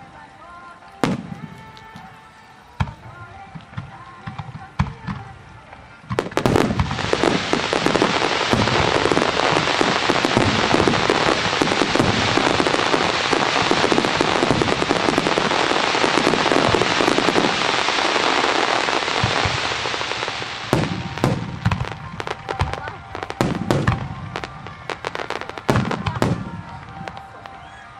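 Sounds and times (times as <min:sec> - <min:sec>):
fireworks crackling: 0:00.0 - 0:27.9.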